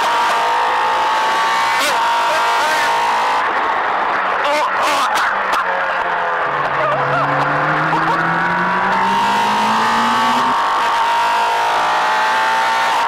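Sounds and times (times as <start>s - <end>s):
race car engine accelerating: 0.0s - 4.1s, 5.2s - 13.0s.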